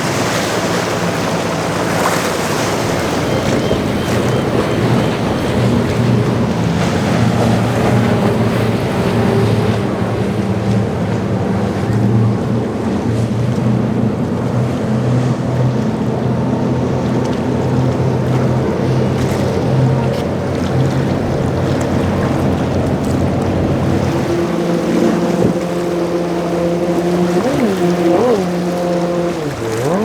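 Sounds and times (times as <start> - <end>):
motorboat engines humming: 0.0 - 30.0
waves washing: 0.0 - 30.0
wind buffeting microphone: 0.0 - 30.0.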